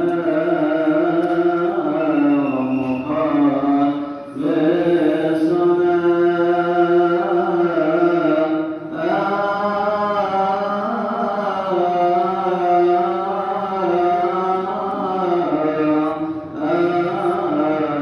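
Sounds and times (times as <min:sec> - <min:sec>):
person chanting liturgical melody: 0:00.0 - 0:18.0.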